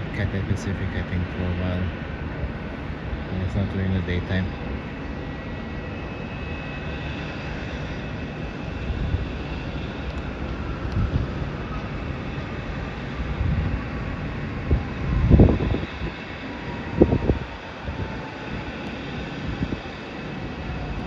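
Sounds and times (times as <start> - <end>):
distant jet engines rumbling: 0.0 - 21.0
faint high engine whine: 0.0 - 21.0
low gusts: 0.0 - 21.0.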